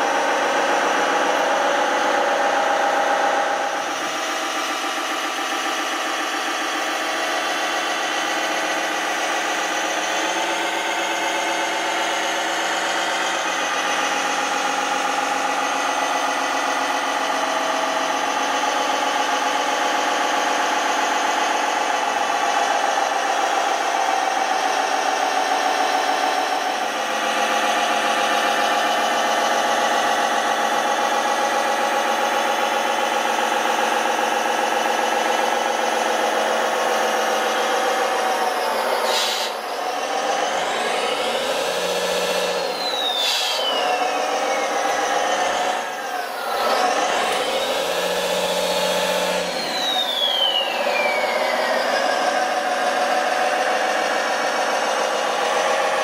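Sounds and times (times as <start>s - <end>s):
model truck engines running: 0.0s - 56.0s.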